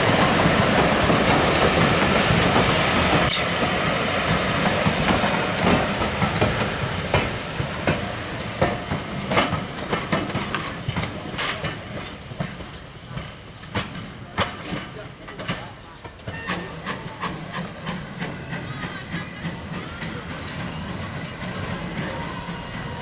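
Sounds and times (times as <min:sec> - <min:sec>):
train running rumble: 0:00.0 - 0:23.0
train wheels clicking over rail joints: 0:00.0 - 0:23.0.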